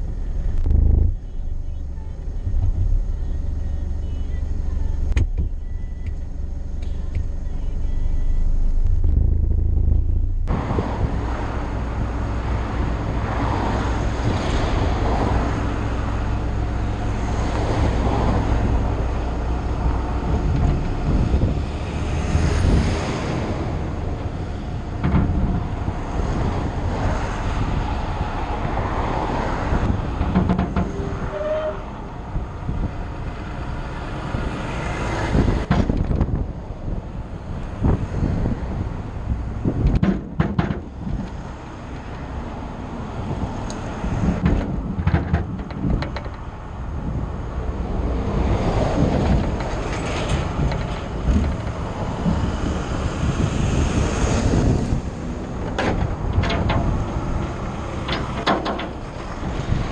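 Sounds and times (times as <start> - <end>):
low engine drone: 0.0 - 59.9
passing lorries and cars: 0.0 - 59.9
road noise: 0.0 - 59.9
rushing wind: 0.0 - 59.9.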